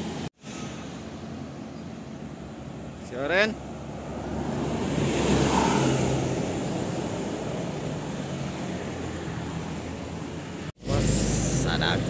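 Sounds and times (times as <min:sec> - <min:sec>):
traffic passing: 0:00.0 - 0:12.0.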